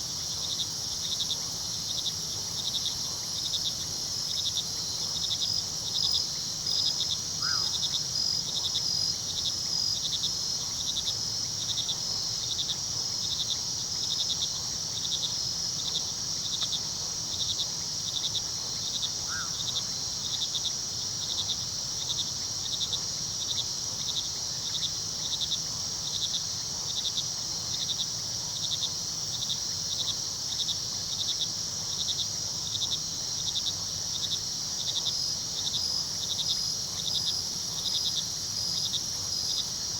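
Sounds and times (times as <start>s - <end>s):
cricket chirping: 0.0s - 39.9s
crickets trilling: 0.0s - 39.9s.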